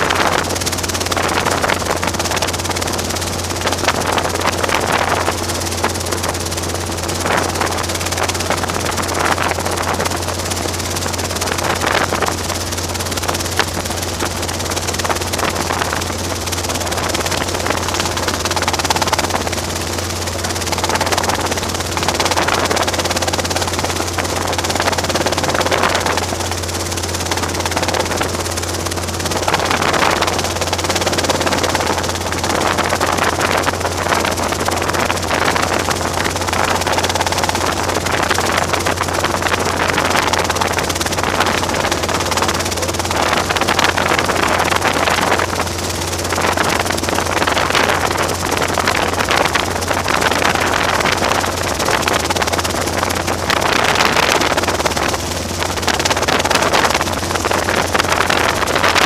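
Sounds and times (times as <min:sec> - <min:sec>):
constant noise: 0:00.0 - 0:59.0
helicopter engine and rotor drone: 0:00.0 - 0:59.0.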